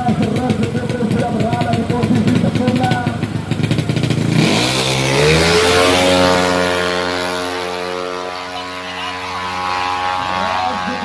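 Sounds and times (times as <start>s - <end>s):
scooter engine accelerating: 0.0s - 11.0s.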